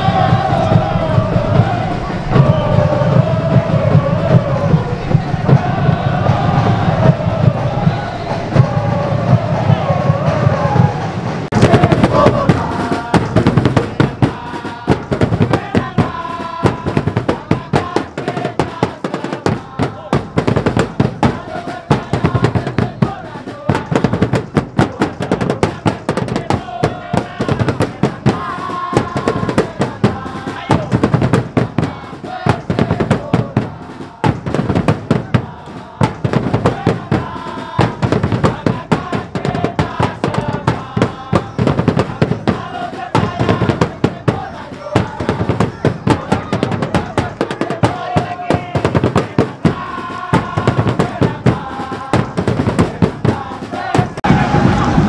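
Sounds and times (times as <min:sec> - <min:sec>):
crowd chanting in unison: 0:00.0 - 0:55.0
fast steady drumming: 0:00.0 - 0:55.0.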